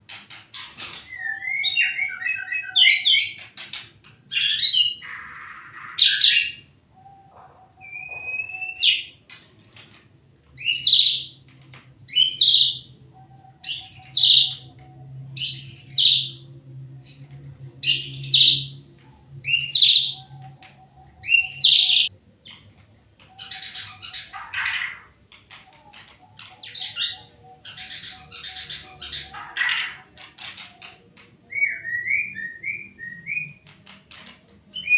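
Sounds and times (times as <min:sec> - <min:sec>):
bird singing: 0:00.0 - 0:09.4, 0:10.6 - 0:34.9.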